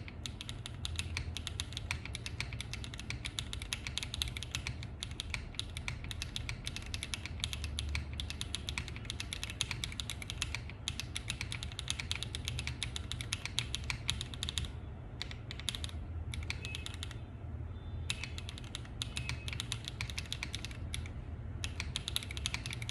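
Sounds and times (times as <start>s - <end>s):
mechanical keyboard typing: 0.0s - 17.2s, 18.1s - 22.9s.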